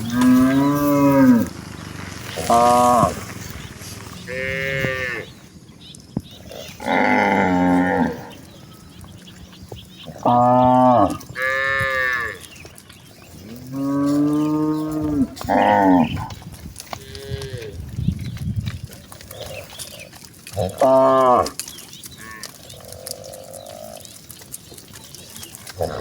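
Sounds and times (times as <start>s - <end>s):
cows mooing: 0.0s - 5.4s, 6.5s - 12.6s, 13.3s - 17.8s, 19.2s - 24.3s, 25.4s - 26.0s.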